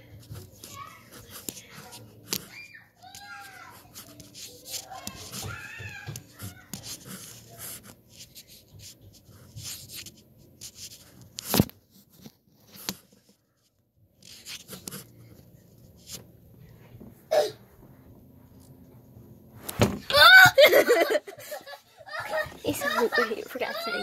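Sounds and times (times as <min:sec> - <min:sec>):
rustling and shuffling: 0:00.0 - 0:24.0.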